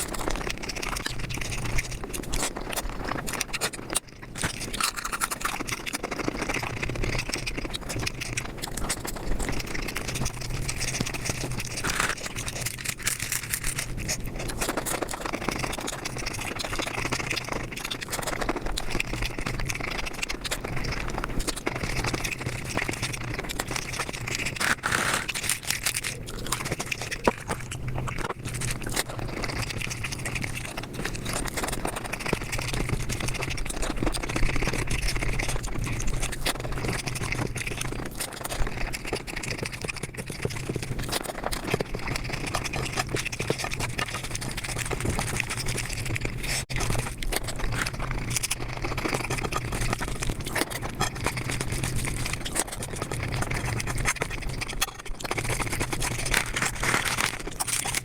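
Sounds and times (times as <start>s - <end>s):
chewing and mouth smacking: 0.0s - 58.0s.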